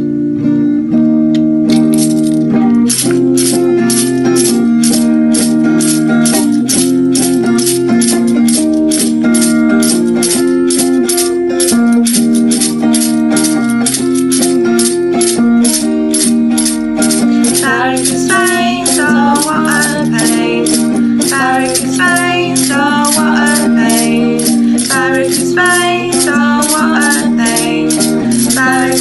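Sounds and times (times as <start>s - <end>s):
electric guitar strumming chords: 0.0s - 29.0s
shaker rattling: 1.7s - 29.0s.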